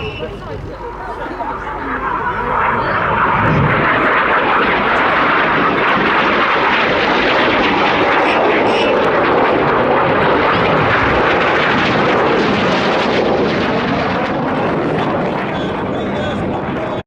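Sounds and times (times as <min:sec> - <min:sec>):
jet engines in flight: 0:00.0 - 0:17.0.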